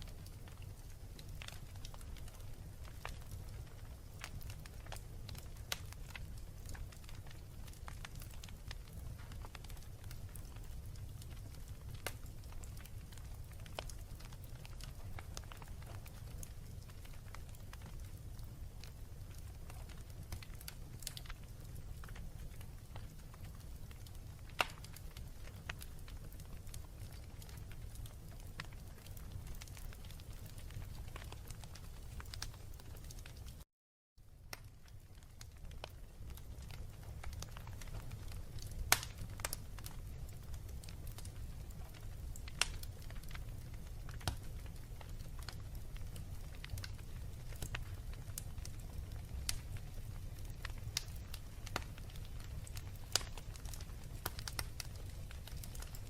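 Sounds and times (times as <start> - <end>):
flames rumbling: 0.0 - 33.6, 34.5 - 56.0
wood fire crackling: 0.0 - 33.6, 34.2 - 56.0.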